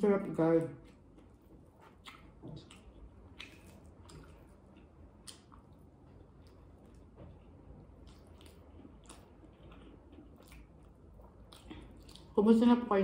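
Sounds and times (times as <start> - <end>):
fingers squishing food on a plate: 0.5 - 12.4
chewing with mouth noises: 0.6 - 12.7.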